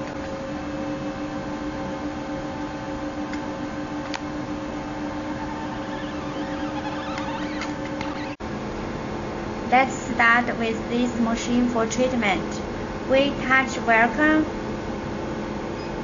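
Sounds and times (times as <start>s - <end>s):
machine fans humming: 0.0s - 15.8s.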